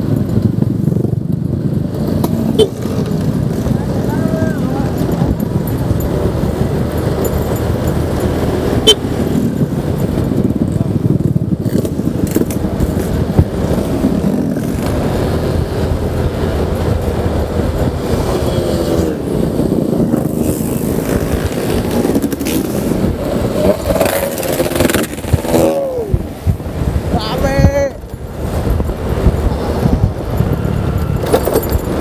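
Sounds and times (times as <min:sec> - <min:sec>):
passing motorcycle engines: 0:00.0 - 0:32.0
scooter engine and road rumble: 0:00.0 - 0:32.0.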